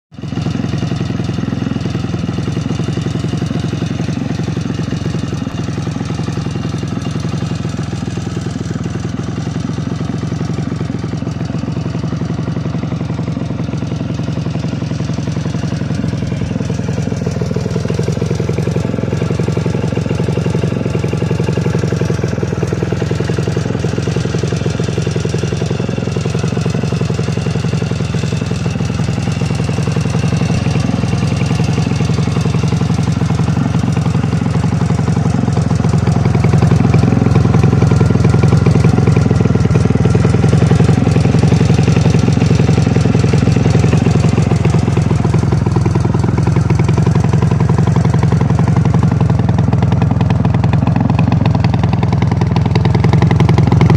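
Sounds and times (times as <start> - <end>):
two-stroke motorcycle engine idling: 0.1 - 53.9.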